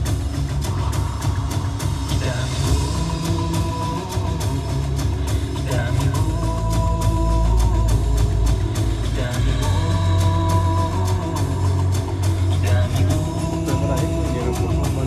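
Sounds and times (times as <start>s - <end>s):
electronic dance music: 0.0s - 15.0s
heavy bass line: 0.0s - 15.0s.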